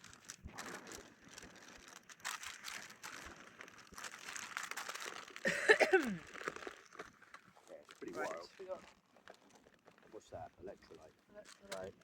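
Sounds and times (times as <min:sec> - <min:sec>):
plastic packets rustling: 0:00.0 - 0:12.0.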